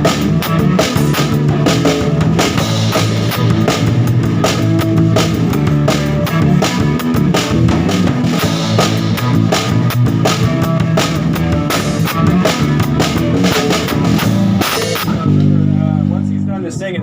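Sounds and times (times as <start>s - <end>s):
drum kit beat: 0.0s - 16.8s
rock band playing: 0.0s - 17.0s.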